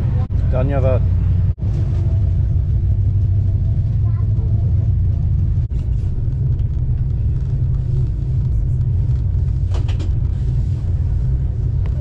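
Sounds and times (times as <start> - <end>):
moving train rumble: 0.0 - 12.0.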